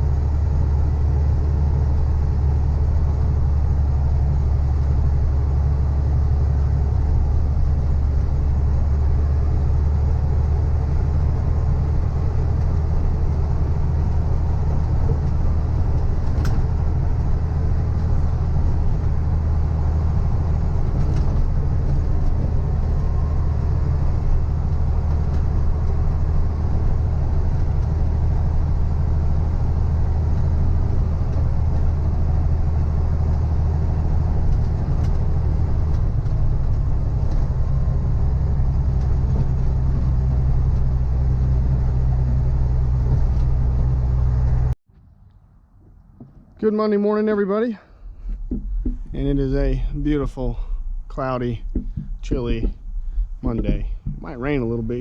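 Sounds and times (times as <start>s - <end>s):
heavy diesel engine running: 0.0s - 44.8s, 45.8s - 55.0s.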